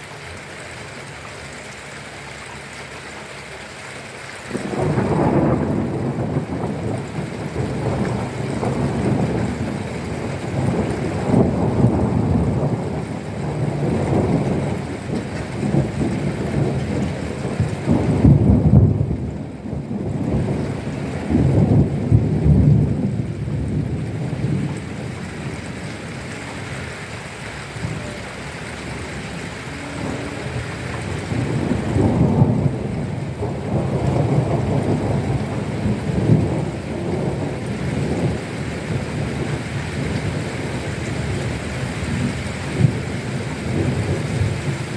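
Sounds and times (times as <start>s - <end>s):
steady rainfall: 0.0s - 44.9s
thunder rumbling: 4.4s - 44.9s.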